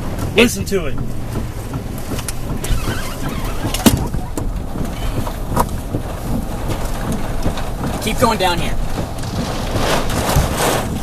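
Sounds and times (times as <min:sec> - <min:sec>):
low rumble inside moving car: 0:00.0 - 0:11.0
sharp knocks: 0:00.1 - 0:11.0.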